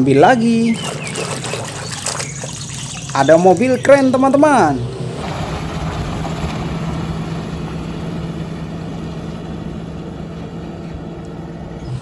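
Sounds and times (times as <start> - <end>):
diesel truck engine: 0.0 - 12.0.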